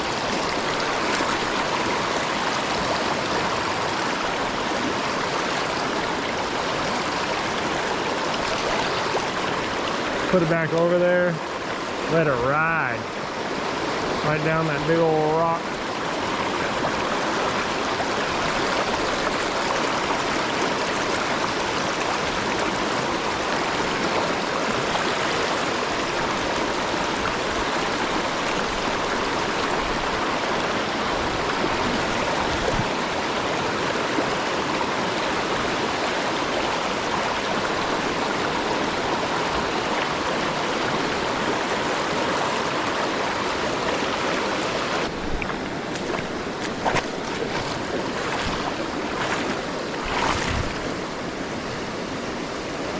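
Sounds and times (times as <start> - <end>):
river current rushing: 0.0 - 52.9.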